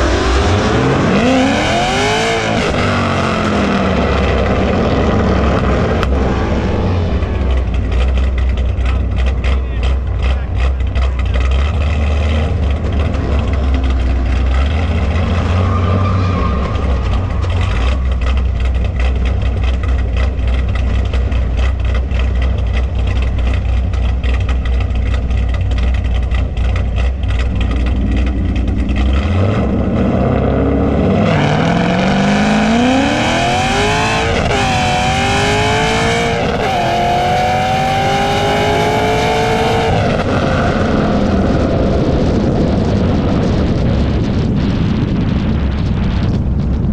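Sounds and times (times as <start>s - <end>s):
car accelerating hard: 0.0s - 46.9s
car engines rumbling at idle: 0.0s - 46.9s.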